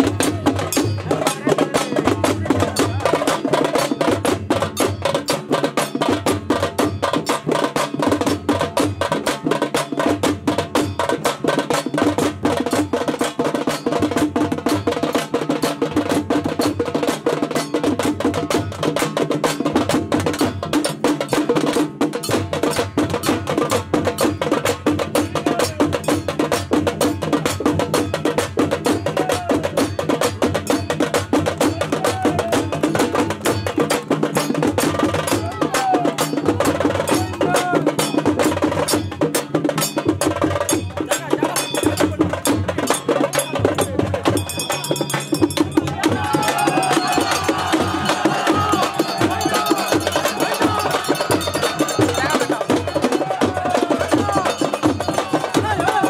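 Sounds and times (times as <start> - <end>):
fast procession drumming: 0.0 - 56.0.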